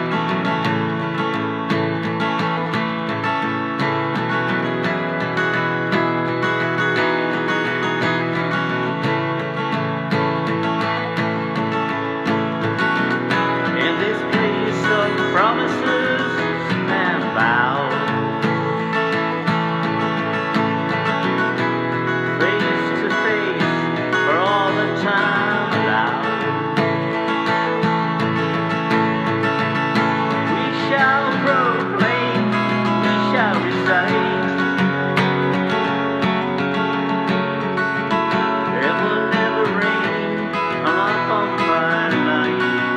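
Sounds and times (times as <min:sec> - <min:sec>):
strummed acoustic guitar: 0:00.0 - 0:42.9.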